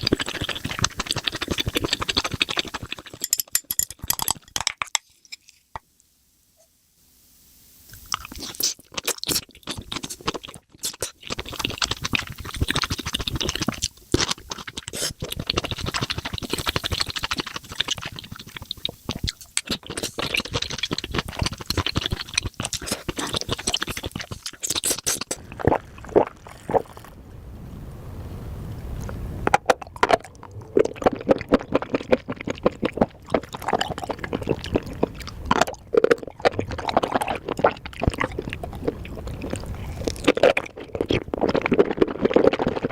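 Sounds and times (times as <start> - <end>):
wet chewing and smacking: 0.0 - 5.6, 8.0 - 27.1, 29.5 - 42.9.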